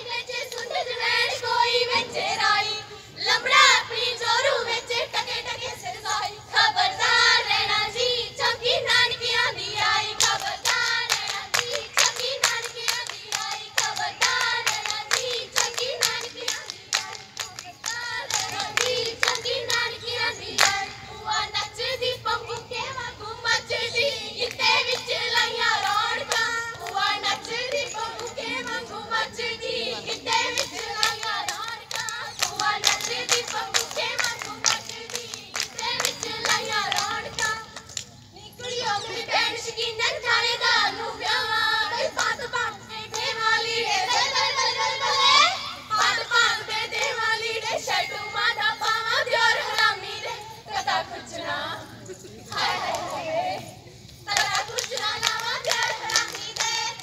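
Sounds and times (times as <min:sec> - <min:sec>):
girls singing folk song: 0:00.0 - 0:57.0
rhythmic hand clapping: 0:00.0 - 0:57.0.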